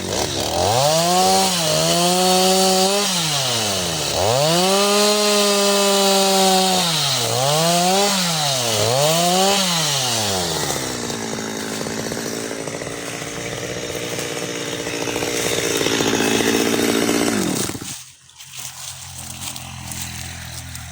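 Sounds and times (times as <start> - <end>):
chainsaw revving: 0.0 - 18.0, 18.6 - 20.9.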